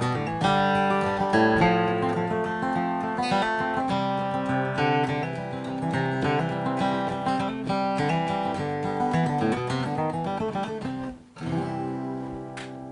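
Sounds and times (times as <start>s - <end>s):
strummed acoustic guitar music: 0.0s - 12.9s.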